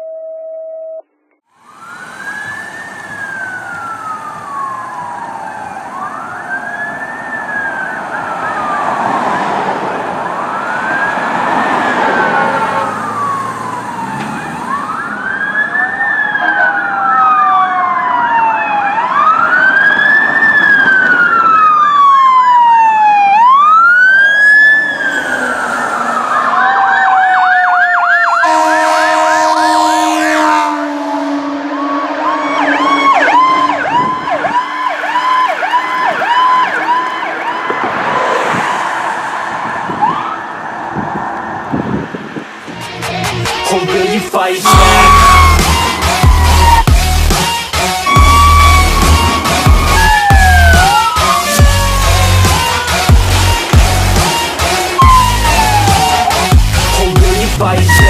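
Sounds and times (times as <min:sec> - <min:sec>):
fire truck sirens wailing: 0:01.4 - 0:58.0
siren fast yelp: 0:01.6 - 0:37.9, 0:44.6 - 0:58.0.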